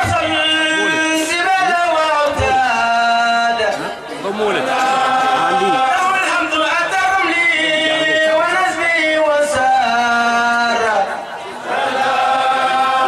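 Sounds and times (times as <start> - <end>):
man chanting through microphone: 0.0 - 11.7.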